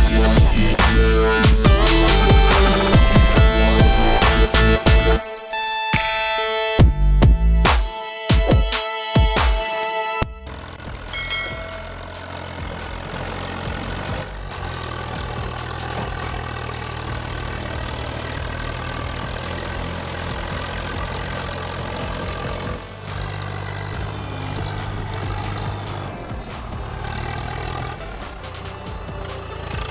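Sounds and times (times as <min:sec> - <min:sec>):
vehicle engine humming: 0:00.0 - 0:29.9.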